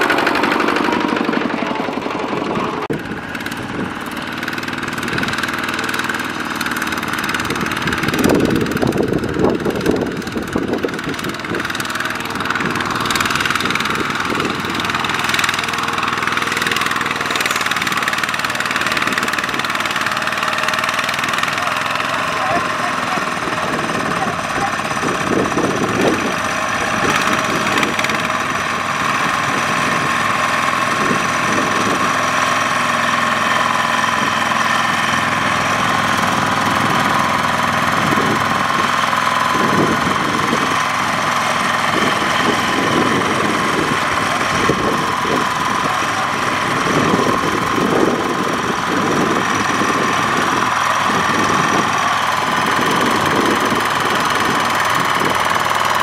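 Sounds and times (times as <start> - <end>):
diesel engine chugging under load: 0.0 - 56.0.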